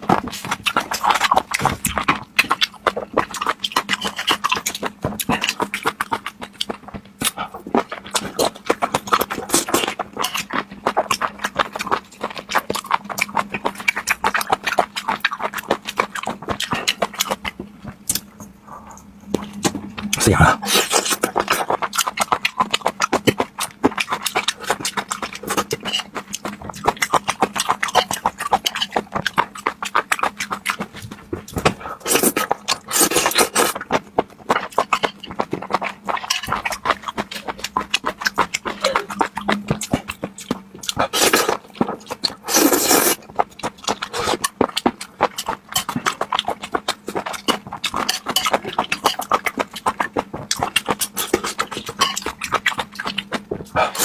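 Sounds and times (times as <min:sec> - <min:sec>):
wet chewing and smacking: 0:00.0 - 0:54.0.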